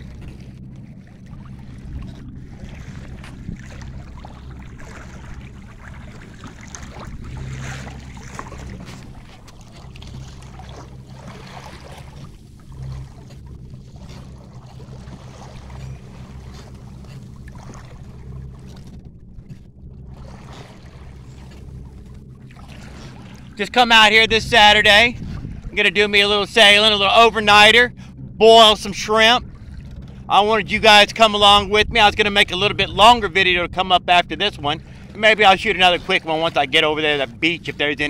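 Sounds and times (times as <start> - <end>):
steady low rumble: 0.0 - 38.0
water splashing along hull: 0.0 - 38.0.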